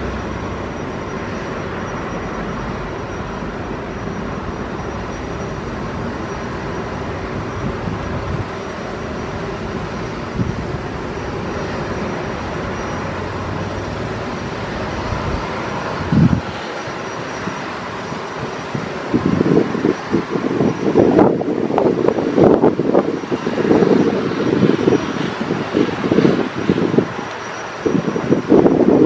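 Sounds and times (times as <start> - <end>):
engines and ground vehicles running: 0.0 - 29.0.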